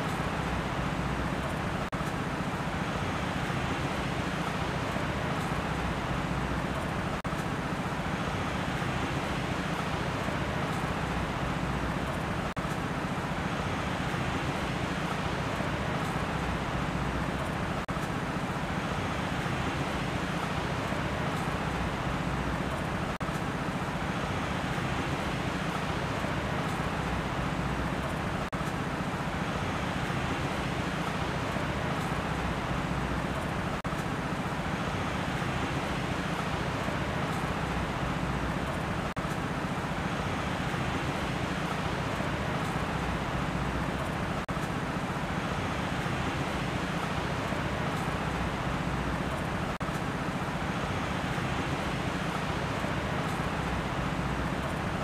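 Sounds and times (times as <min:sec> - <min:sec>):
steady rushing hiss: 0:00.0 - 0:55.0.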